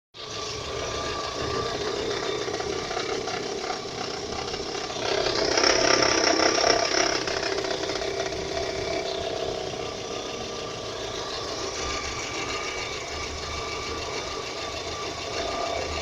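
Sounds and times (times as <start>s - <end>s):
engine knocking: 0.2s - 16.0s.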